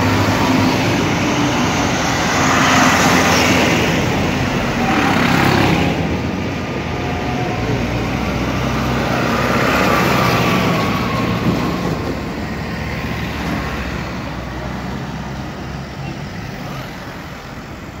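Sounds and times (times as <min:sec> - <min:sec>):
tractor engines driving past: 0:00.0 - 0:18.0.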